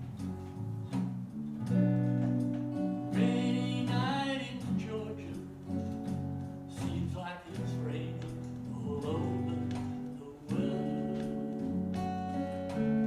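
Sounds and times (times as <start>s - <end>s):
acoustic guitar chords: 0.0s - 13.0s
looper backing track: 0.0s - 13.0s.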